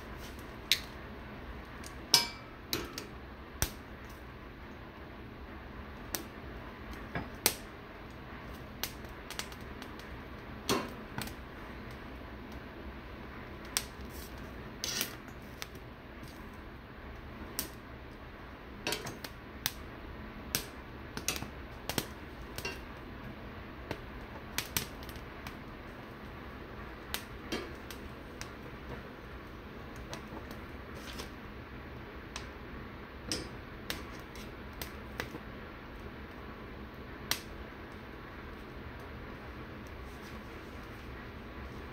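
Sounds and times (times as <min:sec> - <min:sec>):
gas burner flame hissing: 0:00.0 - 0:41.9
pepper skins crackling and popping: 0:00.1 - 0:04.3, 0:06.0 - 0:12.7, 0:13.4 - 0:18.2, 0:18.8 - 0:41.0.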